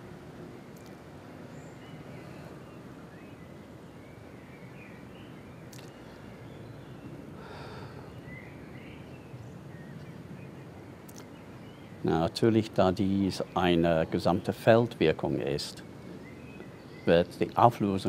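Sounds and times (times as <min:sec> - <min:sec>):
low outdoor background noise: 0:00.0 - 0:18.0.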